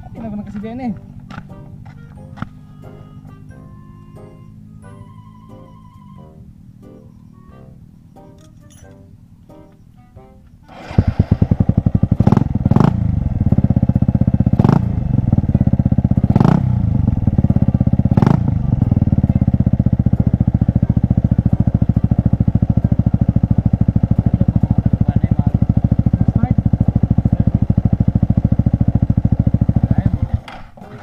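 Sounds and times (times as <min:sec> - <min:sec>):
motorcycle engine revving and idling: 0:00.0 - 0:05.4, 0:10.7 - 0:31.0.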